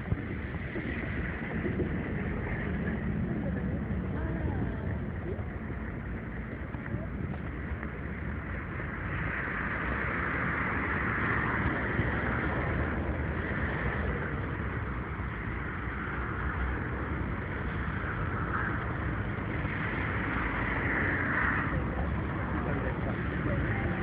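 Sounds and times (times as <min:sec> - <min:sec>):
cars passing on road: 0:00.0 - 0:24.0.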